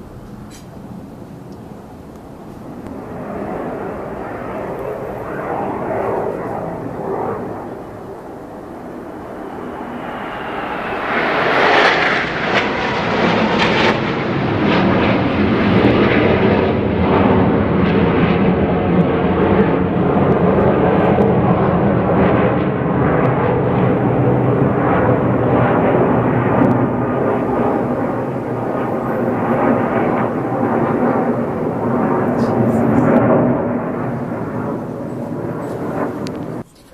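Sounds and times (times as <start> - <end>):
fighter jets flying past: 0.0 - 36.9.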